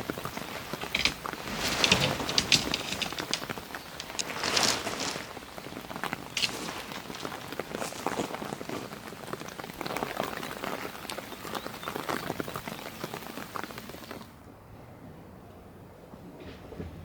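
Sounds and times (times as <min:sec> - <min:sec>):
rain falling: 0:00.0 - 0:14.4.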